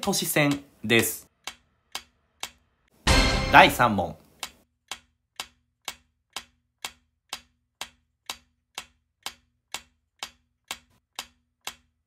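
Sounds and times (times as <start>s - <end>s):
clock-like timer ticks: 0.0s - 12.0s.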